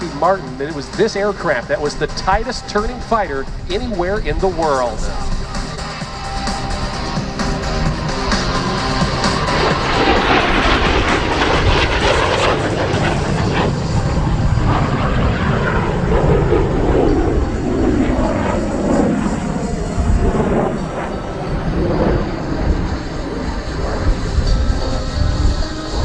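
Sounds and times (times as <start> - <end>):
jet fighter flying by: 0.0 - 26.0.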